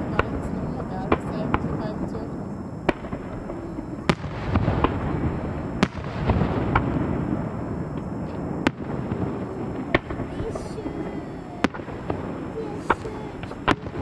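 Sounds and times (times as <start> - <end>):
din of fireworks: 0.0 - 14.0
fireworks bursting with sharp bangs: 0.0 - 14.0.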